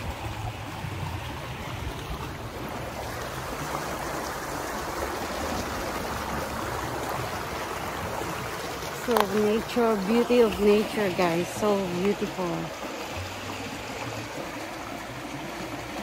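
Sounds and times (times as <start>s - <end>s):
creek water rushing over rocks: 0.0s - 16.0s.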